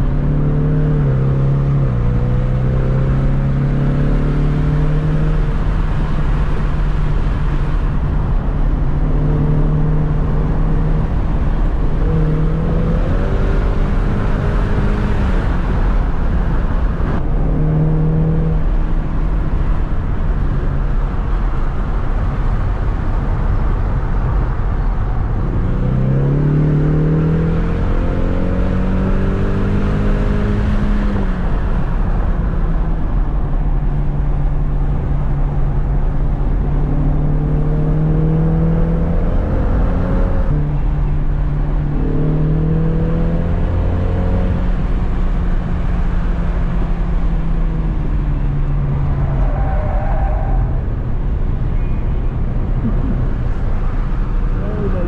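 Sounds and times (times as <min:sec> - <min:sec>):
car engine accelerating: 0:00.0 - 0:55.0
road and wind rumble: 0:00.0 - 0:55.0.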